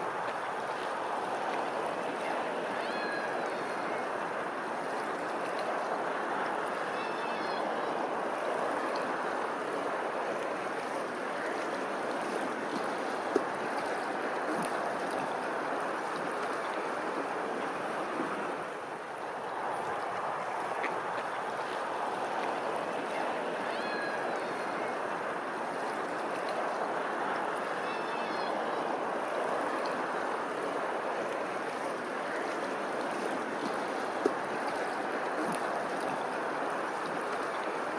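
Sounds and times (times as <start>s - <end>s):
water rushing: 0.0s - 37.9s.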